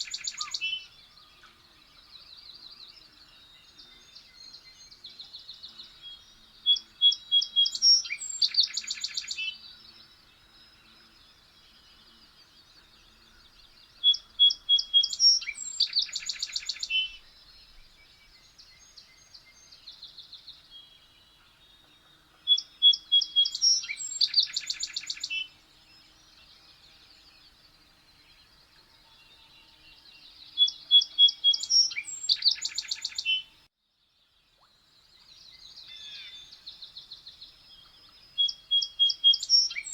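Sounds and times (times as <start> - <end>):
faint birdsong: 0.0 - 39.9.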